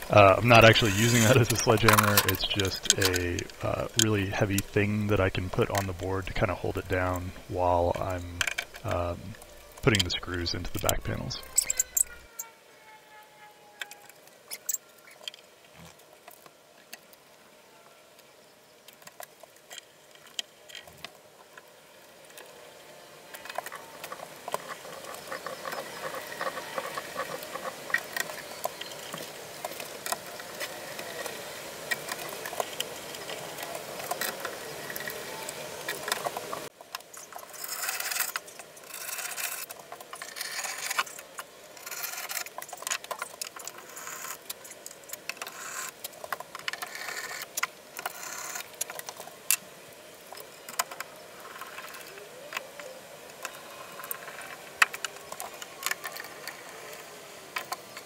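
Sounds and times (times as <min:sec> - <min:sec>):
small clicks and scrapes: 0:00.0 - 0:04.8, 0:08.1 - 0:12.5, 0:13.2 - 0:17.2, 0:18.2 - 0:22.6, 0:23.3 - 0:58.0.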